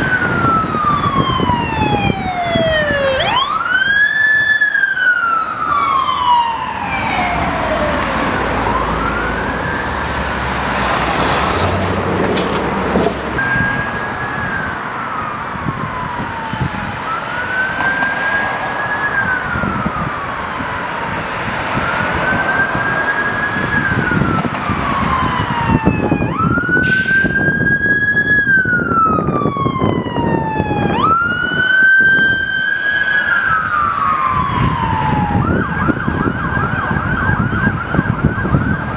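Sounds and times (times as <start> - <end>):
emergency vehicle sirens wailing: 0.0 - 38.9
traffic noise: 0.0 - 38.9.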